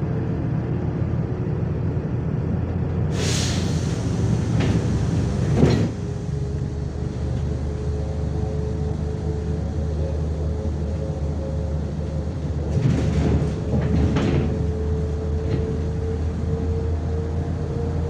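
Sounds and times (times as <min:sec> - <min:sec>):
bus engine drone with whine: 0:00.0 - 0:18.0
bus body rattling and knocking: 0:00.6 - 0:18.0.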